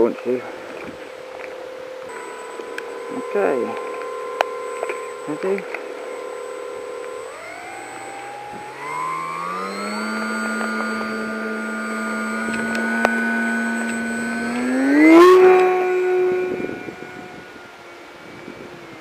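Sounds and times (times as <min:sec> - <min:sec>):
model plane motor whining: 0:00.0 - 0:19.0.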